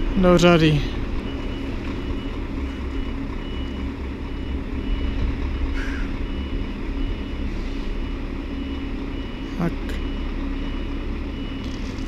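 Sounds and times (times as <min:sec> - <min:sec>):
truck diesel engines running: 0:00.0 - 0:12.0.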